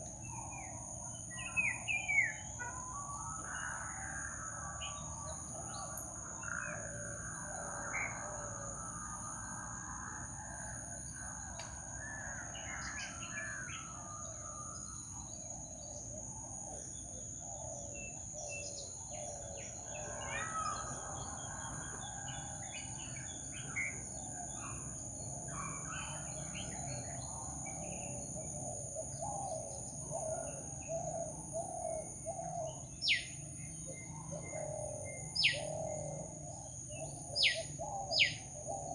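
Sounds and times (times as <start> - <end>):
birds calling and chirping: 0.0 - 38.9.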